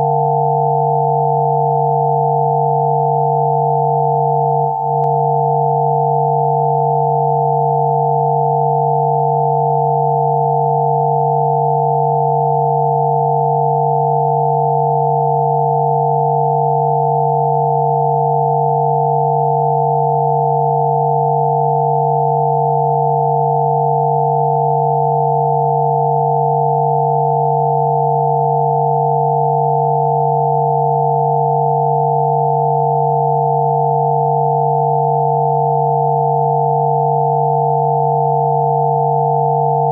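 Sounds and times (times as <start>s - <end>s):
steady electronic sine tones: 0.0s - 39.9s.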